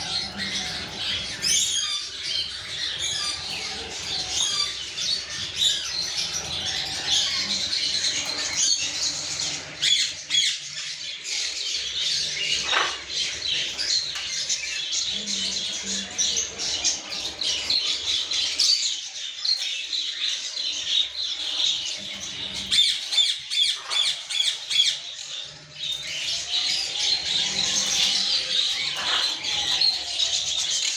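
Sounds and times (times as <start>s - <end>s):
parrots squawking and chattering: 0.0s - 30.9s.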